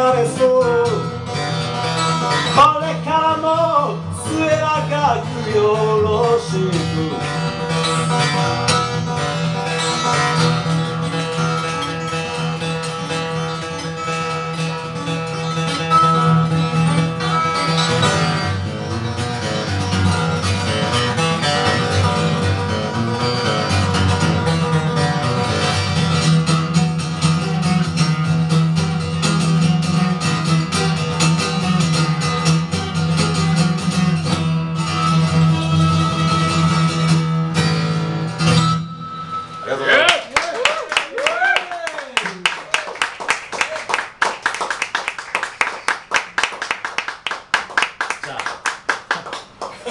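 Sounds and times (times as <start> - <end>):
acoustic guitar playing: 0.0 - 40.4.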